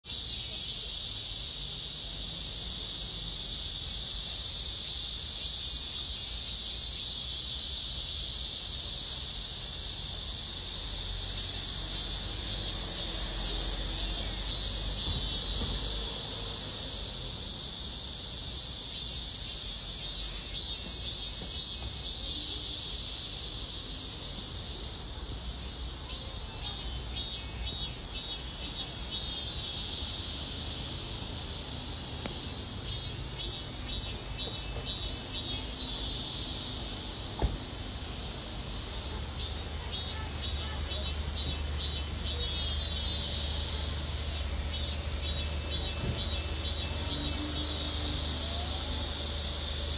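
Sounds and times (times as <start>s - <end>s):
cicada buzzing: 0.1s - 49.9s.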